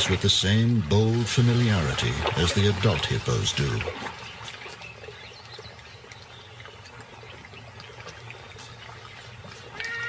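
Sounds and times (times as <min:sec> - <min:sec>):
water trickling and lapping: 0:00.0 - 0:10.0.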